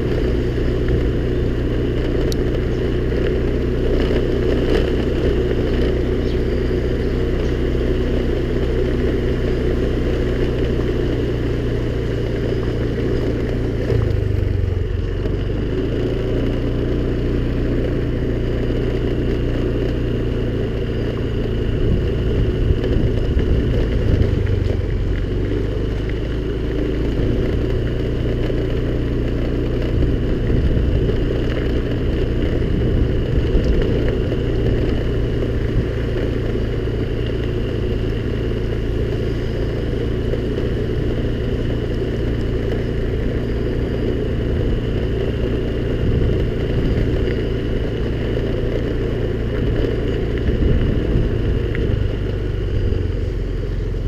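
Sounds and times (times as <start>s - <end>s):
scooter engine running: 0.0s - 54.0s.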